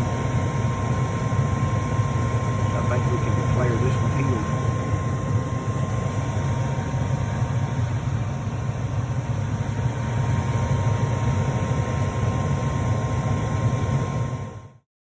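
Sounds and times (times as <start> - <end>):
gas furnace humming: 0.0 - 14.7
thin steady whine: 0.0 - 14.8.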